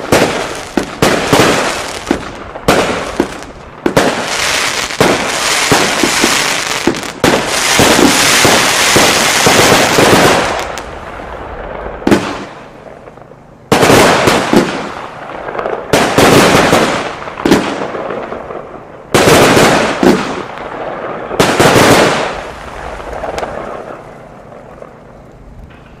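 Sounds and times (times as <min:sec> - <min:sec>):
firework bangs and crackle: 0:00.0 - 0:26.0
firework shots with hiss: 0:00.0 - 0:26.0.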